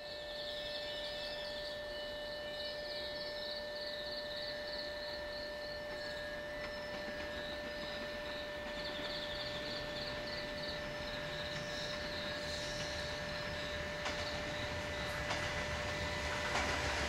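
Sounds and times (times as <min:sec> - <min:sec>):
constant humming tone: 0:00.0 - 0:17.0
insects chirping: 0:00.0 - 0:17.0.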